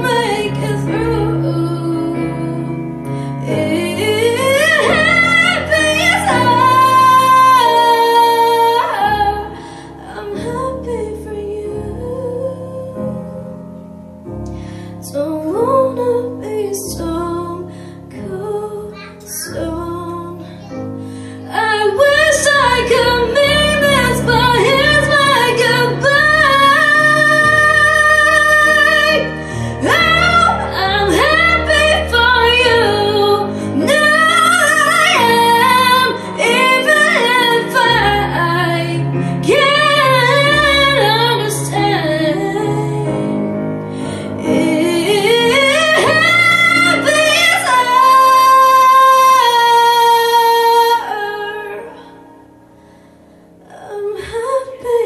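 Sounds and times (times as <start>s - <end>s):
woman singing pop ballad: 0.0s - 13.4s, 21.4s - 52.1s, 53.6s - 55.0s.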